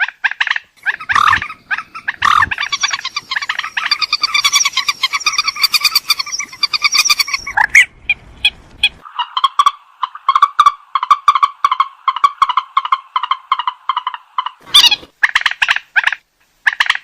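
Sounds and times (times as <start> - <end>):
bird calling repeated notes: 0.0 - 17.0
bird squawk: 0.0 - 17.0.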